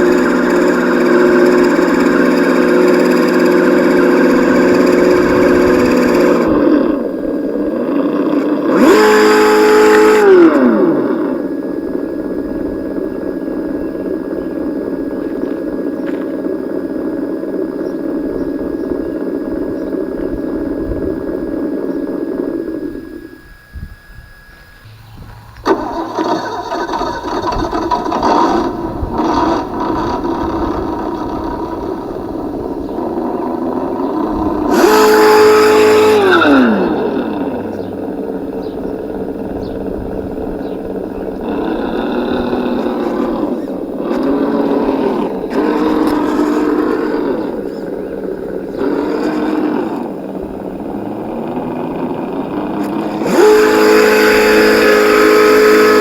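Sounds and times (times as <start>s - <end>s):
simulated engine idling and revving: 0.0s - 23.4s, 24.7s - 56.0s.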